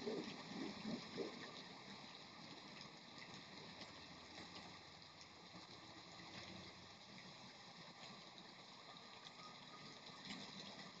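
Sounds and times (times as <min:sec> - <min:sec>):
faint rain hiss: 0:00.0 - 0:11.0.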